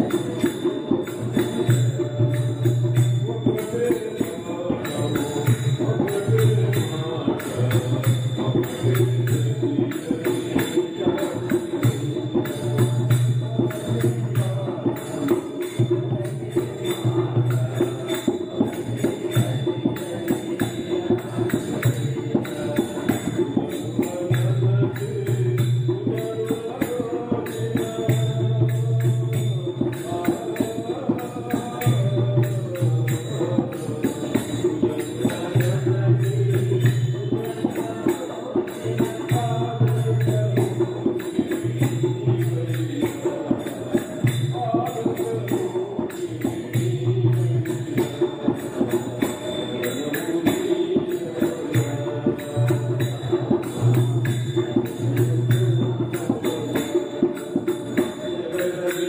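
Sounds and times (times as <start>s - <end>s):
percussion beat: 0.0s - 59.0s.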